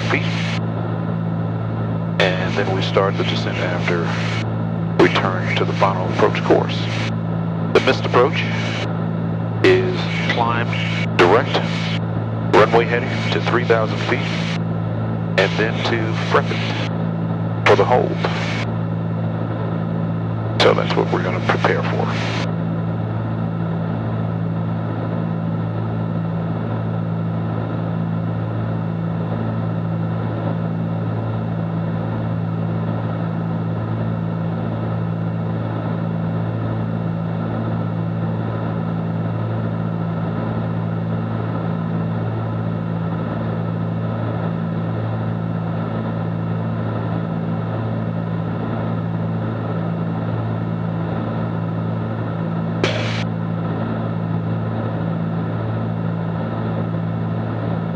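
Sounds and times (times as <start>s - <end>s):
propeller aircraft engines droning: 0.0s - 57.9s.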